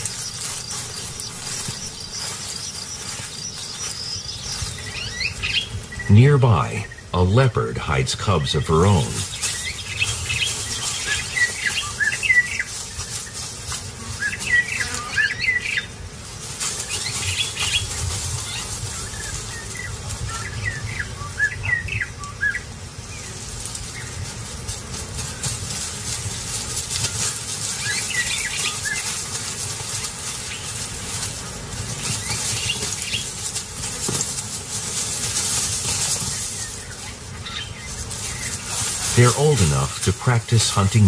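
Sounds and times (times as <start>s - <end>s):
small birds chirping: 0.0s - 16.0s, 16.6s - 41.0s
steady hiss: 0.0s - 41.0s.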